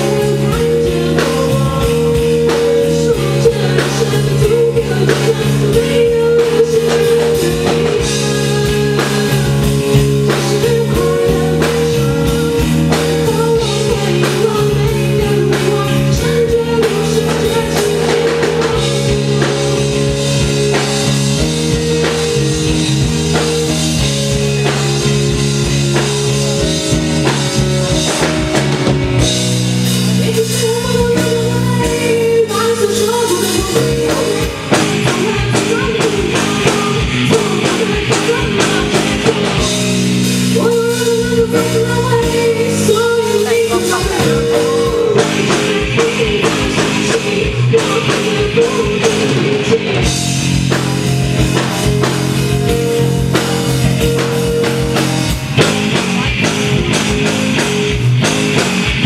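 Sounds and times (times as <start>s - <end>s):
drum kit: 0.0s - 59.0s
rock band playing live: 0.0s - 59.0s.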